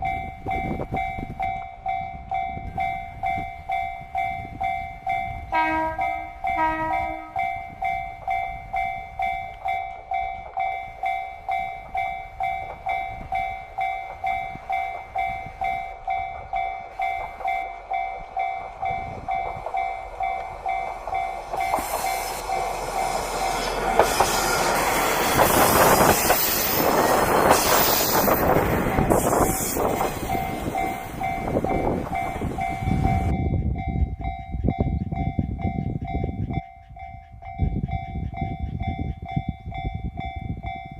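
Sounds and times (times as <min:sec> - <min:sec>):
diesel train passing: 0:00.0 - 0:40.9
level-crossing alarm clanging: 0:00.0 - 0:40.9.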